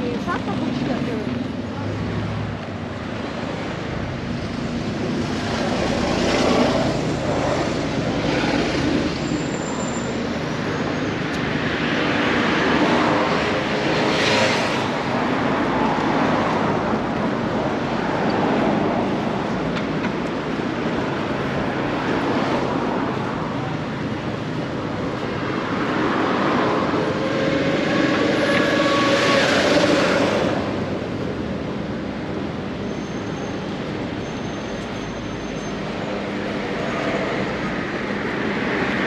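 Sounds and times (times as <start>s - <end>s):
passing vehicles: 0.0s - 39.0s.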